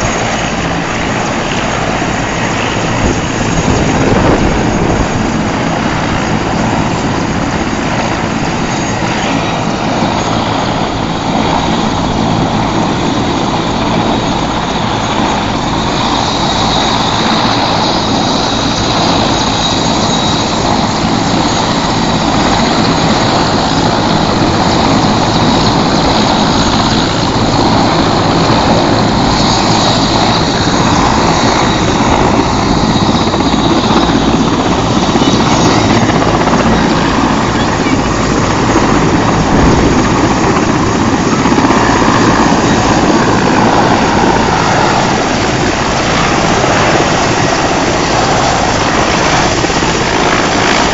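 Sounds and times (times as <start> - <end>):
helicopter rotor and engine: 0.0 - 50.9.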